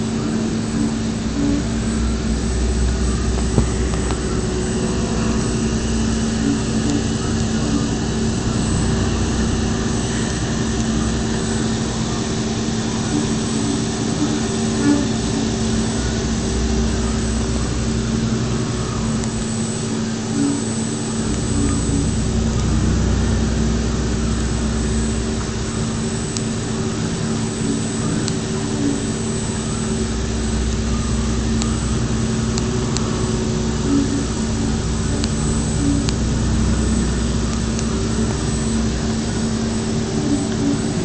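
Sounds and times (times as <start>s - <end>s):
constant low hum: 0.0s - 41.0s
machining centre running: 0.0s - 41.0s.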